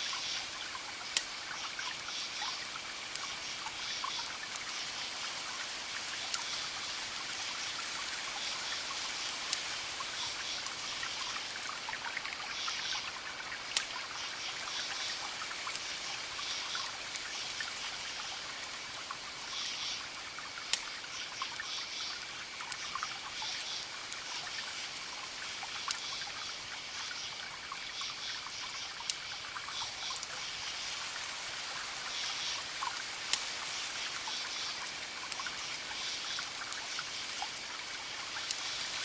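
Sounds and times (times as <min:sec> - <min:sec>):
campfire crackling and popping: 0:00.0 - 0:39.0
crickets chirping in trills: 0:00.0 - 0:39.0.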